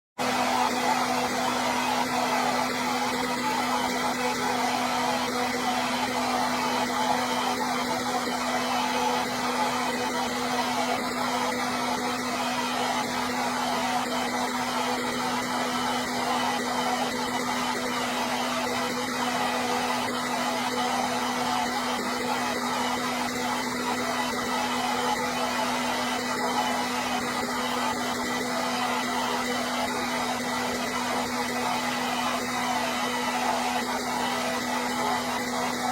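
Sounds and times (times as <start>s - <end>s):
hair dryer running: 0.0s - 35.9s.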